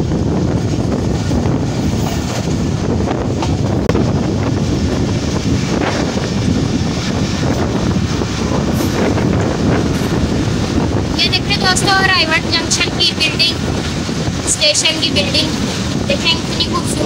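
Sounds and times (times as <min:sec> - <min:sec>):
train rumbling on rails: 0:00.0 - 0:17.0
wind buffeting microphone: 0:00.0 - 0:17.0.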